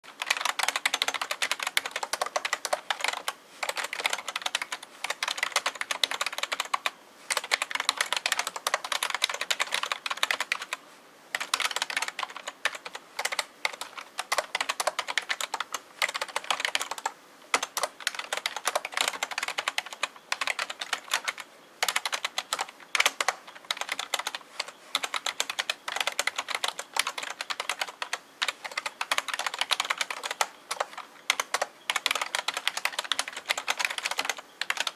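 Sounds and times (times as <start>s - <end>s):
fast typing on keyboard: 0.1s - 10.8s, 11.4s - 34.9s.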